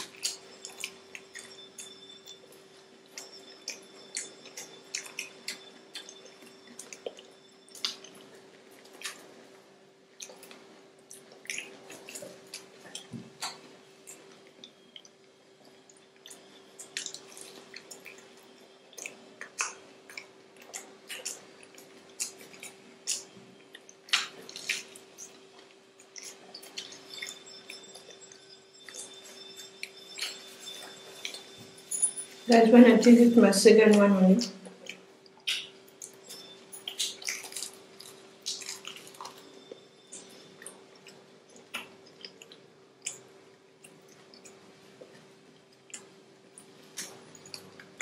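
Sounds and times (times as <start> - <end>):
people chewing food: 0.0 - 33.2, 33.8 - 48.0
faint steady hum: 0.0 - 48.0.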